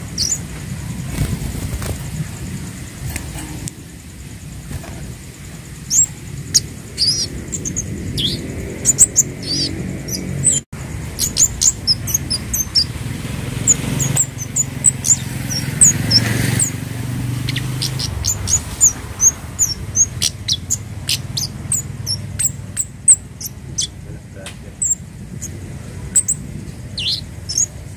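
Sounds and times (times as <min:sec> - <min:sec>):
bird chirping: 0:00.0 - 0:27.9.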